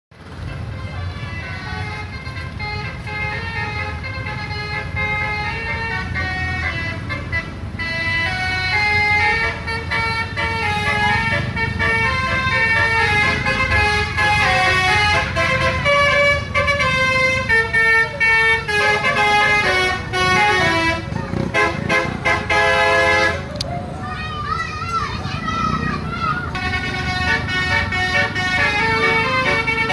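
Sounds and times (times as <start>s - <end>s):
traffic rumble: 0.1s - 29.9s
multi-tone musical bus horn: 0.2s - 23.6s, 26.4s - 29.9s.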